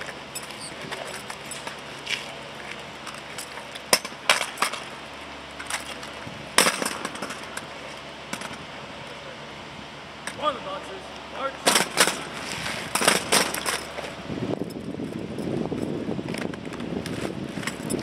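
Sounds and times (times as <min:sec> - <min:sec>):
drill rifles clacking on asphalt: 0:00.0 - 0:09.2, 0:10.2 - 0:18.0
outdoor background noise: 0:00.0 - 0:18.0.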